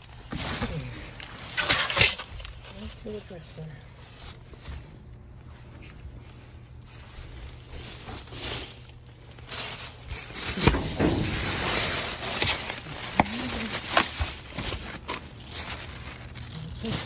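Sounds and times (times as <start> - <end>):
plastic bags rustling: 0.0 - 17.0.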